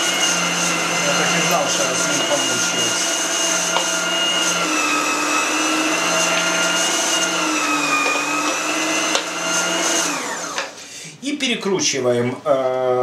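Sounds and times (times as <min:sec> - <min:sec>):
meat grinder motor whine: 0:00.0 - 0:10.8.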